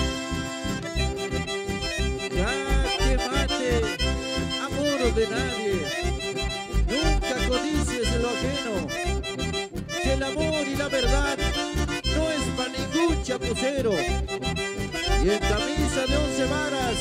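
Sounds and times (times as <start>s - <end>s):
accordion melody: 0.0s - 17.0s
steady bass beat: 0.0s - 17.0s.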